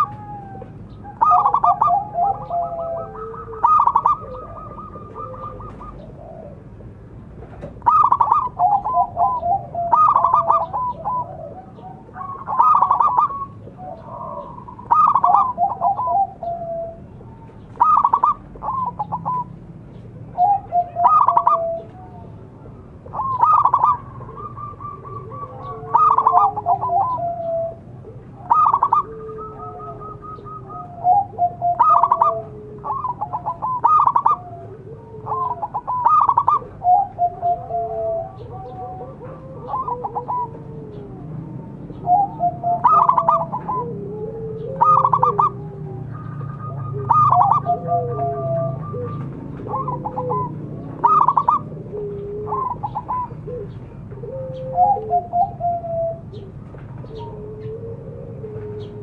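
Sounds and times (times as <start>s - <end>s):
fainter lower bird call: 0.0s - 6.6s, 7.6s - 59.0s
dove cooing: 0.0s - 59.0s.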